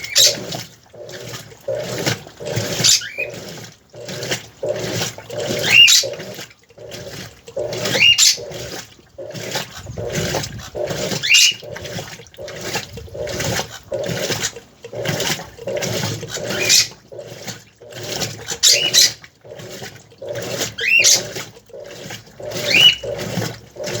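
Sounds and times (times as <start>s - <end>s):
washing machine churning water: 0.0s - 24.0s.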